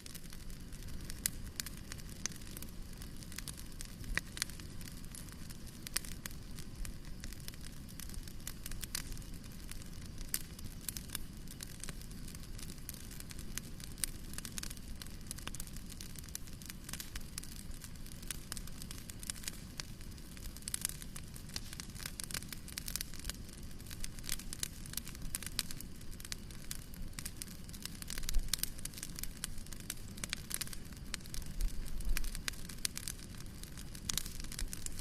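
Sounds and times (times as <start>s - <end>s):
fire crackling and popping: 0.0s - 35.0s.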